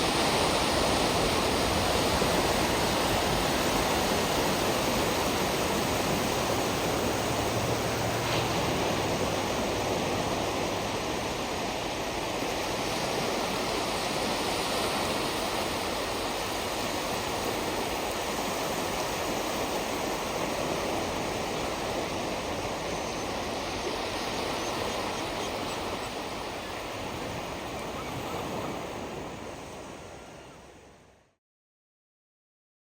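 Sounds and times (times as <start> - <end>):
surf washing on shore: 0.0 - 31.2.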